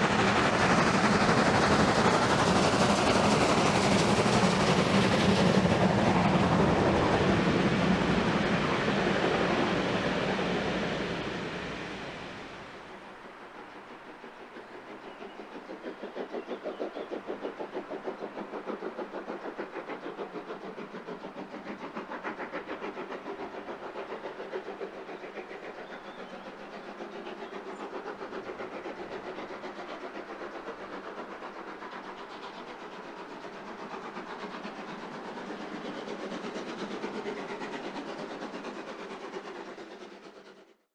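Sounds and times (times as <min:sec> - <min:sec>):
train clattering at speed: 0:00.0 - 0:40.9.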